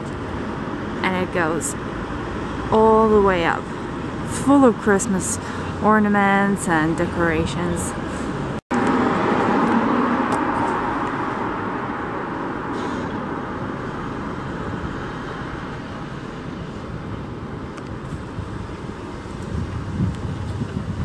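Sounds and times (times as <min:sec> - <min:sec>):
road traffic rush: 0:00.0 - 0:21.0.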